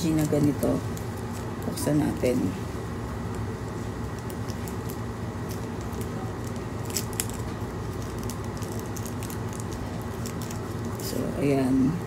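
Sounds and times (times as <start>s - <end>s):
wrapper crinkling: 0.0s - 2.2s, 3.2s - 11.5s
low room hum: 0.0s - 12.0s.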